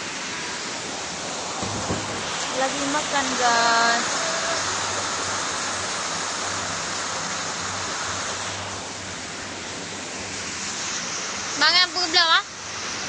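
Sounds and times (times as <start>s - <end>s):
heavy rain falling: 0.0s - 10.6s.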